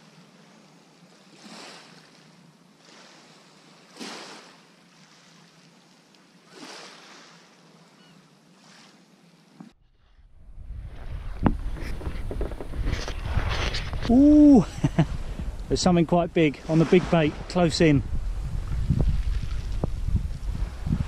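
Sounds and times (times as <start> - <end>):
small waves on shingle beach: 0.0 - 9.5, 12.7 - 21.0.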